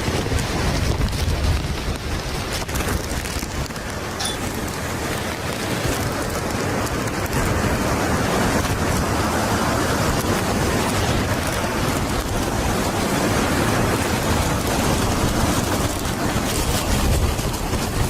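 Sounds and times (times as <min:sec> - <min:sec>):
heavy rain: 0:00.0 - 0:18.0
hurricane wind: 0:00.0 - 0:18.0.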